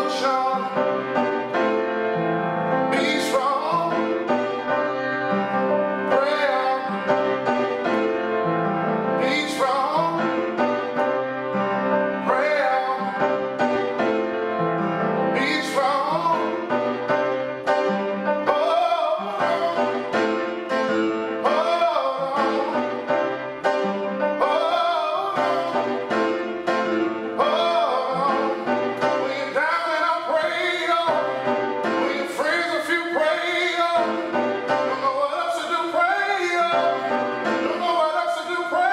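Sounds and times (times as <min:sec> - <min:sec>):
man singing: 0:00.0 - 0:01.6, 0:02.8 - 0:07.9, 0:08.9 - 0:11.1, 0:12.0 - 0:13.8, 0:14.9 - 0:17.2, 0:18.3 - 0:38.9
piano chords: 0:00.0 - 0:38.9.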